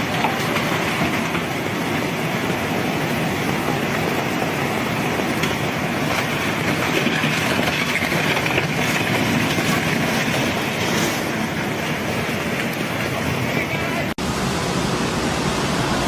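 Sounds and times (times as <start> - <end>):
rushing floodwater roar: 0.0 - 16.0.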